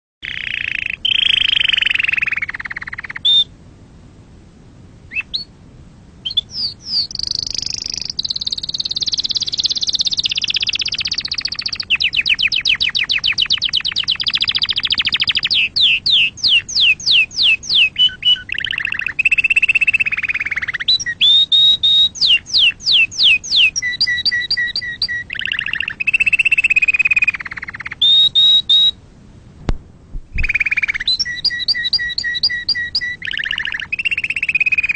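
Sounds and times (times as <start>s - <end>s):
canary singing: 0.2s - 3.5s, 5.1s - 5.5s, 6.2s - 29.0s, 30.3s - 34.9s.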